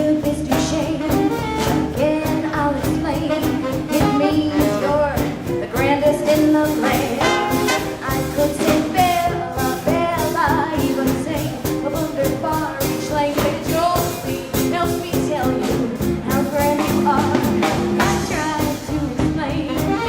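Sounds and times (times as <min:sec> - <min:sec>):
live swing band playing: 0:00.0 - 0:20.0.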